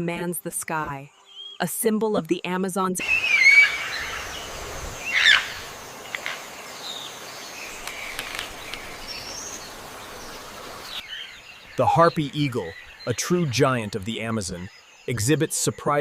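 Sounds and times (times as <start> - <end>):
bird calls and chirps: 1.0 - 1.6, 3.0 - 16.0
background hiss: 3.0 - 16.0.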